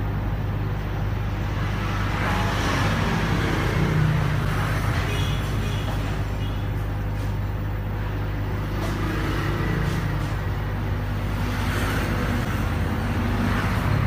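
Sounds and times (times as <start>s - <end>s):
low electric hum: 0.0s - 14.0s.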